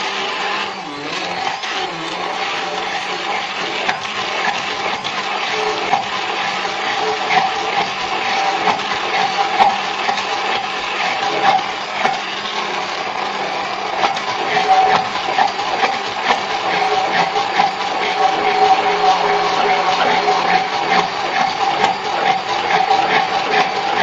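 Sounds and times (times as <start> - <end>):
immersion blender motor whine: 0.0 - 24.0.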